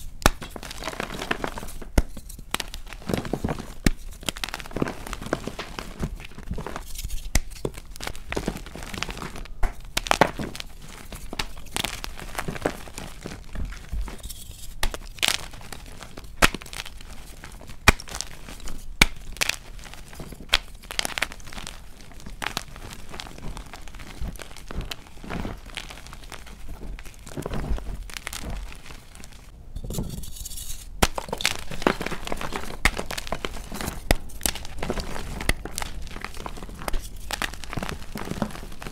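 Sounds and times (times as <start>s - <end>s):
chalk blocks crunching in hands: 0.0s - 38.9s.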